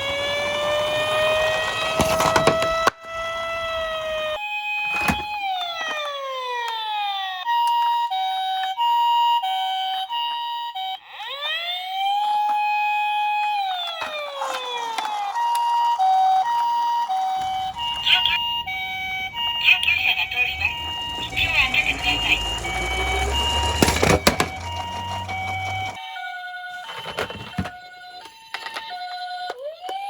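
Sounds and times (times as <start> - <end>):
toy two-tone siren: 0.0 - 30.0
toy wailing siren: 0.0 - 30.0.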